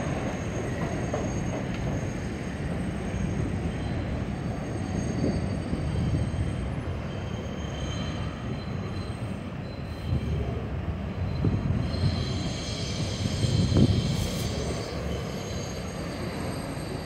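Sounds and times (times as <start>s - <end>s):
subway train rumbling: 0.0s - 17.0s
wheel squeal: 0.3s - 10.3s, 11.2s - 17.0s.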